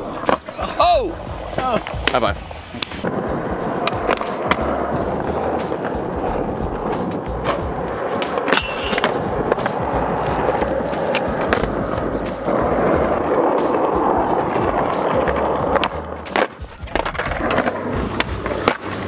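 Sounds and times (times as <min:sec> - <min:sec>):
skateboard clacks: 0:00.0 - 0:19.0
skateboard wheels rolling on concrete: 0:00.0 - 0:19.0.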